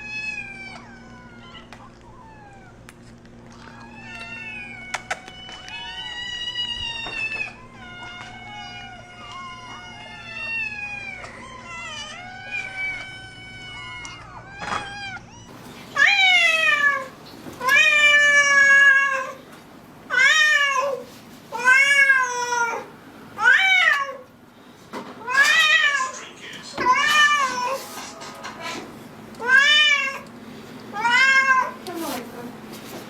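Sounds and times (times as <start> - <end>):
cats meowing: 0.0 - 19.5, 20.1 - 24.4, 25.2 - 28.0, 28.7 - 32.0.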